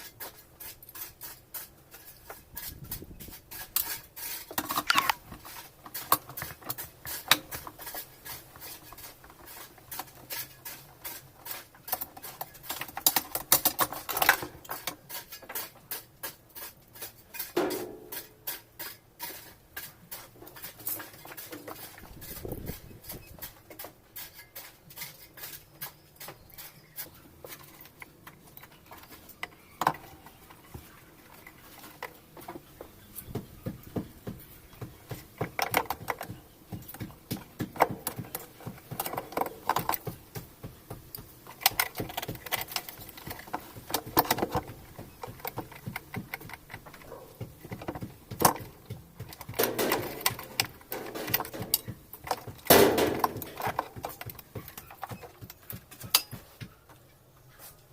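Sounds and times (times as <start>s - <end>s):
washing machine parts and tools handled: 0.0s - 57.9s.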